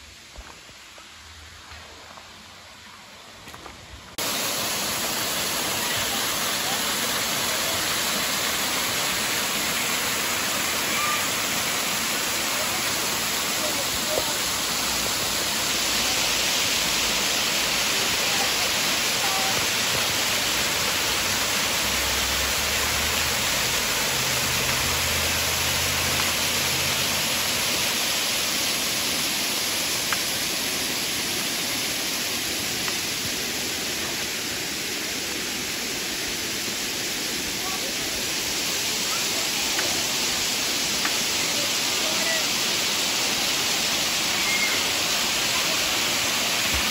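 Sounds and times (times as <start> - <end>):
waterfall rushing: 4.1 - 46.9.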